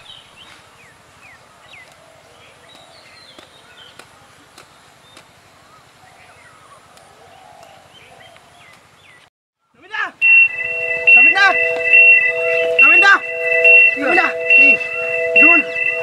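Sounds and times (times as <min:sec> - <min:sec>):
birds chirping: 0:00.0 - 0:16.0
faint open-field ambience: 0:00.0 - 0:16.0.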